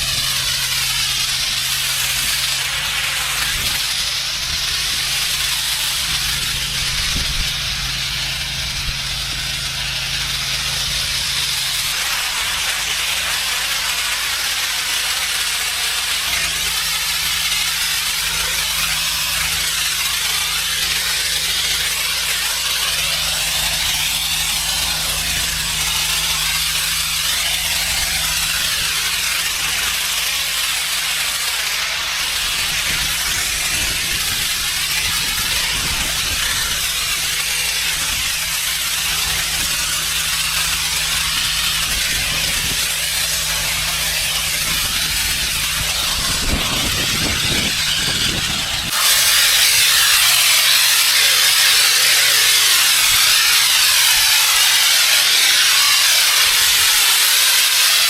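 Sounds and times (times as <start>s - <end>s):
engine hum: 0.0s - 54.5s
high-pressure water spraying: 0.0s - 58.0s.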